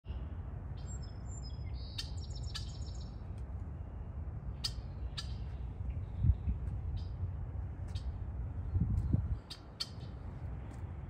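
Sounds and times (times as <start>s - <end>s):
small birds calling: 0.1s - 10.9s
steady low rumble: 0.1s - 11.0s.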